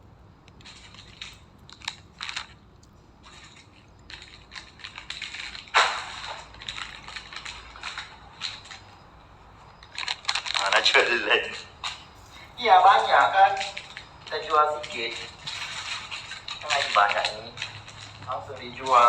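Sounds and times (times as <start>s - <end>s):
plastic packaging crinkling: 0.6s - 19.0s.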